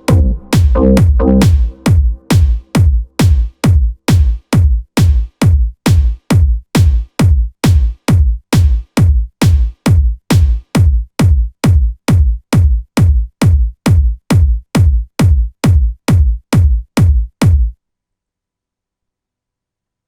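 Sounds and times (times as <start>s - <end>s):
drum machine kick drum thuds: 0.0s - 17.8s.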